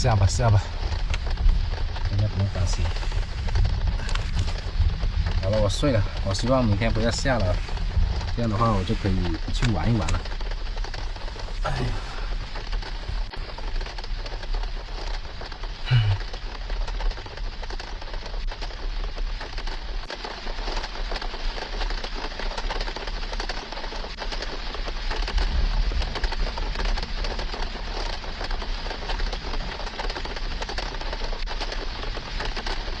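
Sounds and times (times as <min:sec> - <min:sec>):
heavy rain on trailer roof: 0:00.0 - 0:33.0.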